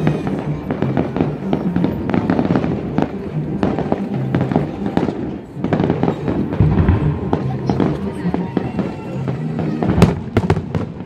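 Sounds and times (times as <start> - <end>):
fireworks bangs and crackles: 0.0 - 11.0
music: 0.0 - 11.0.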